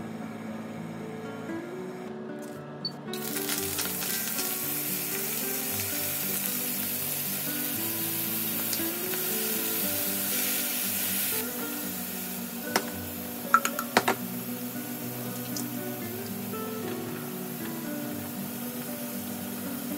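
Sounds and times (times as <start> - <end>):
shrimp sizzling in frying pan: 3.2 - 19.9.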